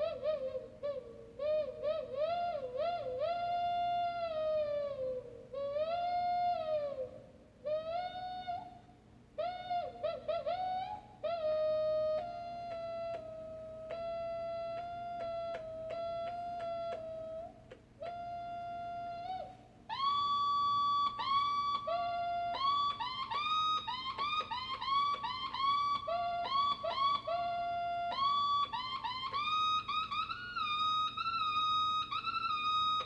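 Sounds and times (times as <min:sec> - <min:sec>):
electric guitar wah squeal: 0:00.0 - 0:05.0, 0:07.7 - 0:08.8, 0:09.4 - 0:33.0.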